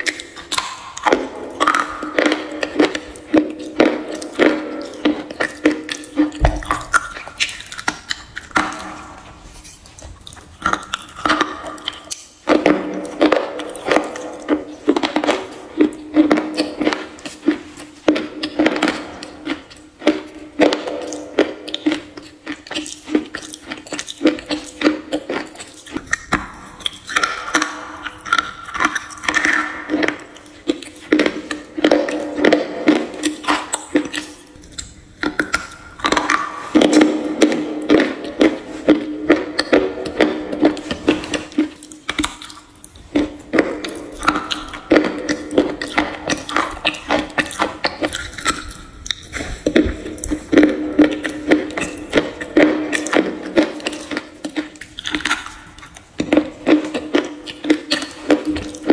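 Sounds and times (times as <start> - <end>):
crunching and chewing: 0.0 - 58.9.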